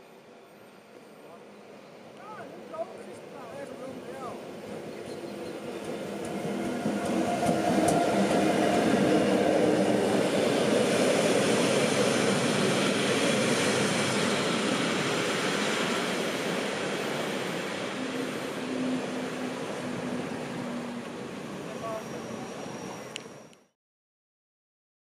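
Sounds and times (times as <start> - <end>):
electric locomotive motor hum: 0.1 - 23.7
train wheels on rails: 0.6 - 23.6.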